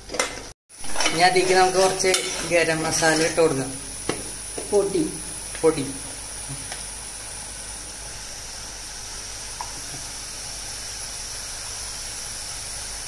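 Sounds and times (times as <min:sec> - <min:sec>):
pan cooking hiss: 0:00.0 - 0:13.0.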